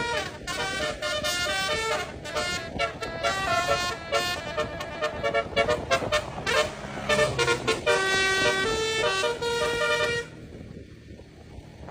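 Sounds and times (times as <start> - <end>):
bus horn playing a melody: 0.0 - 10.6.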